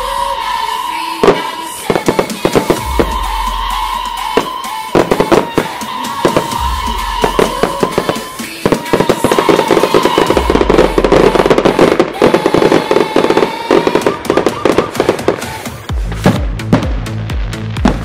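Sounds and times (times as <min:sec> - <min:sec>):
fireworks bangs and crackles: 0:00.0 - 0:18.0
music: 0:00.0 - 0:18.0.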